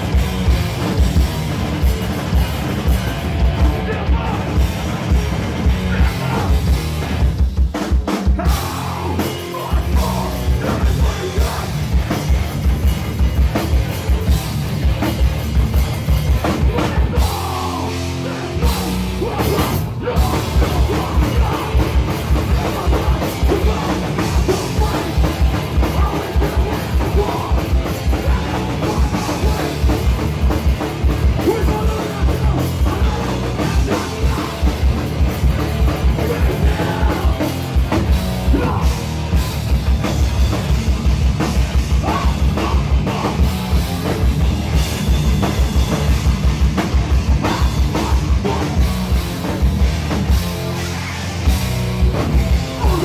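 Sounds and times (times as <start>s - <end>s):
bass guitar: 0.0s - 53.0s
distorted electric guitars: 0.0s - 53.0s.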